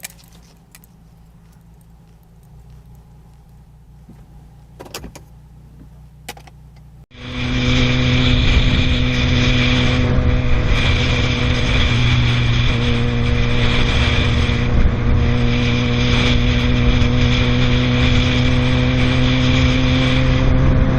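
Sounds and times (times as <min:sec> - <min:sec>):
car engine drone: 0:00.0 - 0:20.9
low hum: 0:00.0 - 0:20.9
road noise: 0:00.0 - 0:20.9.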